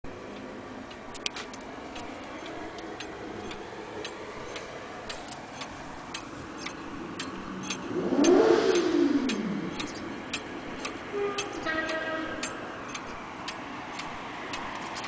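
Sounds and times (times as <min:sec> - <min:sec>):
pendulum wall clock ticking: 0:00.1 - 0:15.0.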